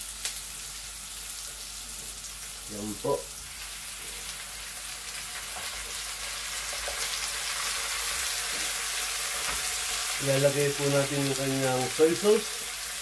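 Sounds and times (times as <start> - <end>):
oil sizzling in a wok: 0.0 - 13.0.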